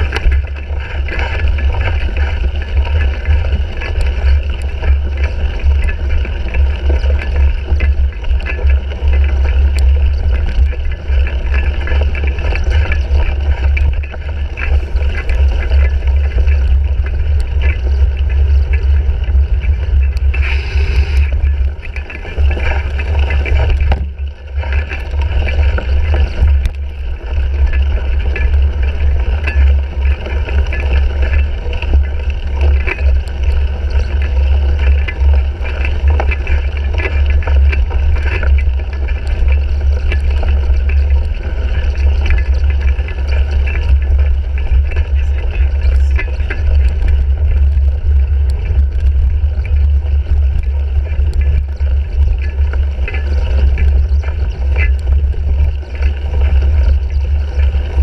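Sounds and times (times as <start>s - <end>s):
bike clicks and knocks: 0.0s - 58.0s
wind buffeting microphone: 0.0s - 58.0s.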